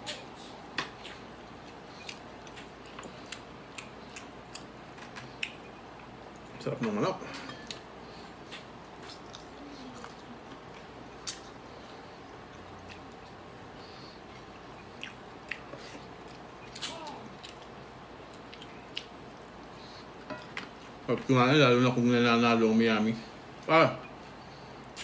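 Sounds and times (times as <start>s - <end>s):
quiet chewing: 0.1s - 6.6s, 7.3s - 21.1s.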